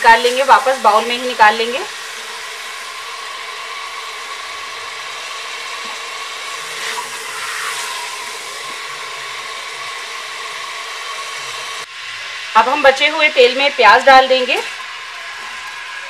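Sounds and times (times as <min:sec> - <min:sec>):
chicken sizzling in hot oil: 0:00.0 - 0:16.0
steady whirring hum: 0:00.0 - 0:16.0.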